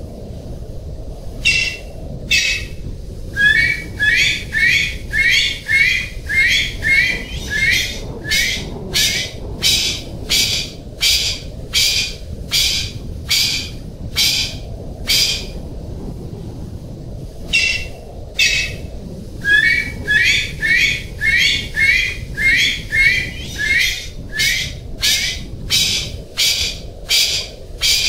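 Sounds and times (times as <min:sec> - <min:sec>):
pheasant calling harsh high notes: 0:01.4 - 0:02.7, 0:03.4 - 0:15.5, 0:17.5 - 0:18.8, 0:19.4 - 0:28.0.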